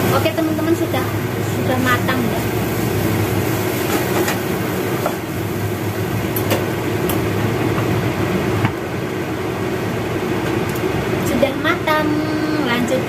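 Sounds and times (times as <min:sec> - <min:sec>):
electric fan motor humming: 0:00.0 - 0:13.0.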